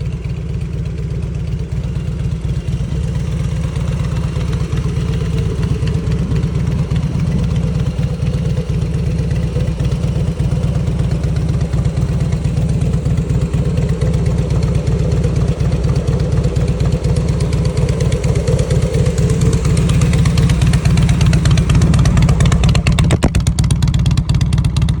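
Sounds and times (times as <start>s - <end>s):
motorcycle engine exhaust beats: 0.0s - 25.0s.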